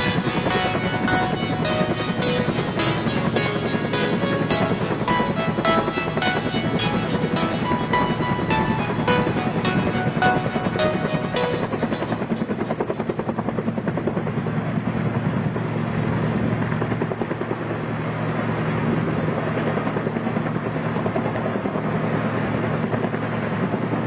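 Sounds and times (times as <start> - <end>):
aircraft rotor beat and turbines: 0.0 - 24.0.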